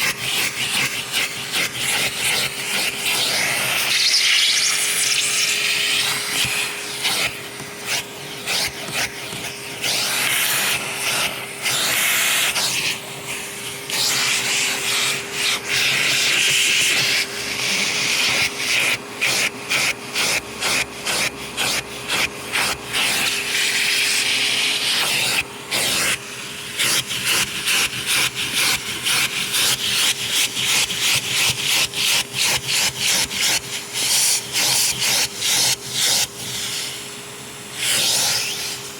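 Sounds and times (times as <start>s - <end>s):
vacuum cleaner on carpet: 0.0s - 38.9s.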